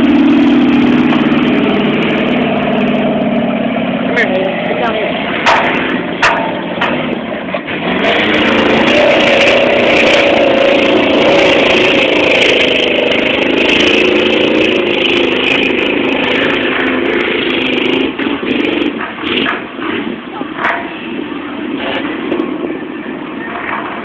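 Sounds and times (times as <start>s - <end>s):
engine revving under load: 0.0s - 24.0s.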